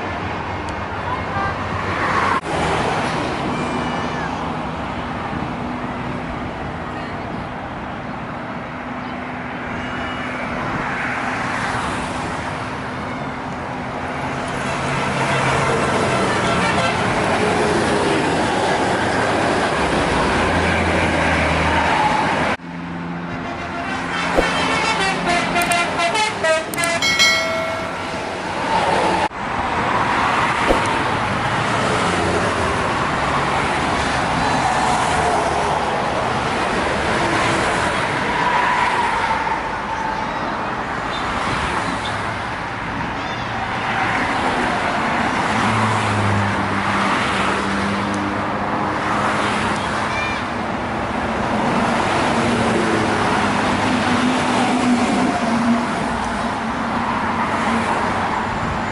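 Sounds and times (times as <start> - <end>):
road traffic noise: 0.0 - 58.9.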